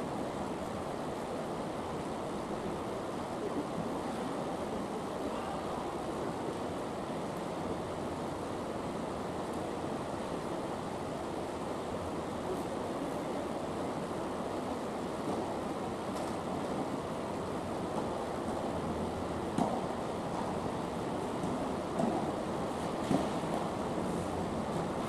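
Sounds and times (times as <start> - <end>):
steady rushing background noise: 0.0 - 25.0.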